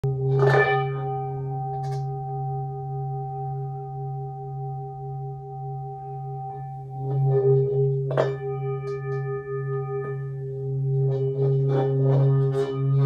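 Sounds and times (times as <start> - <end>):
metal singing bowl ringing: 0.1 - 13.0.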